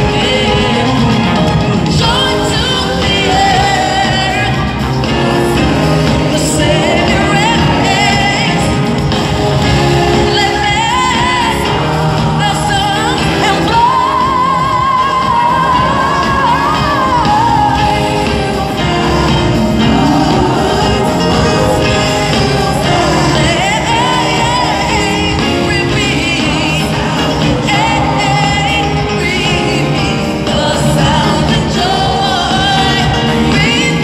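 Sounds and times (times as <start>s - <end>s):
woman singing live with band: 0.0s - 34.0s.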